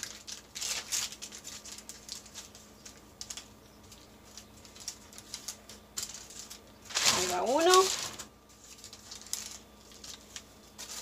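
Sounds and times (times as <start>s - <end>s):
dough crinkling on parchment paper: 0.0s - 11.0s
faint steady hum: 0.0s - 11.0s.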